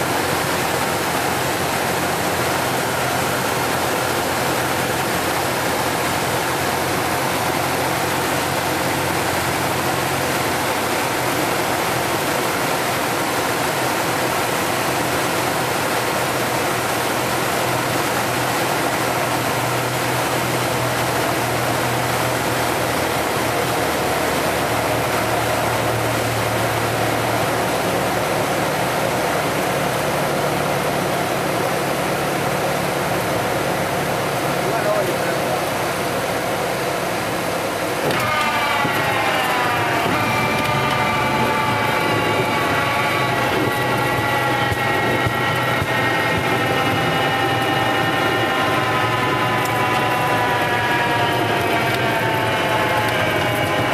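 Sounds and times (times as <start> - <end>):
light aircraft engine drone: 0.0 - 53.9.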